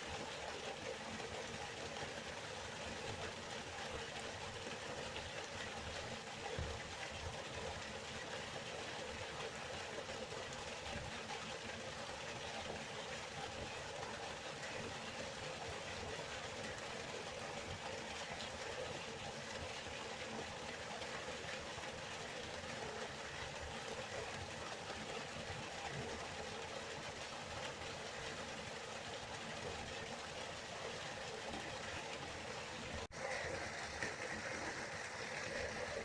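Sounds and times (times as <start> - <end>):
river water flowing: 0.0 - 36.0.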